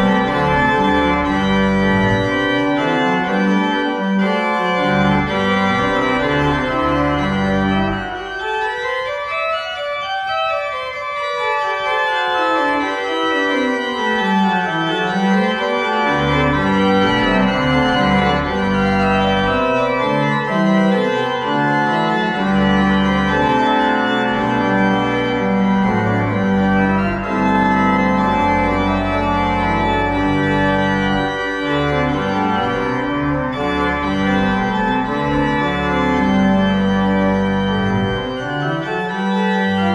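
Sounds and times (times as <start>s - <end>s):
organ playing chords: 0.0s - 39.9s.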